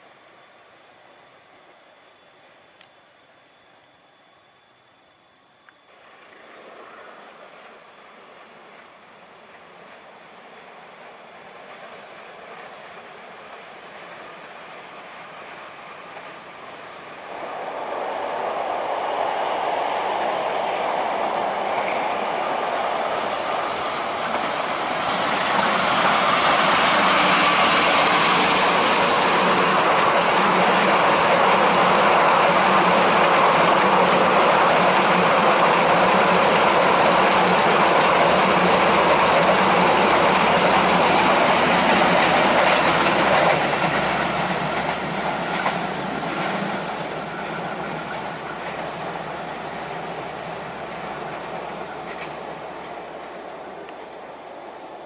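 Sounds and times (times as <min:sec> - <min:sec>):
diesel locomotive engine: 0:00.0 - 0:55.0
train wheels clickety-clack: 0:06.0 - 0:54.7.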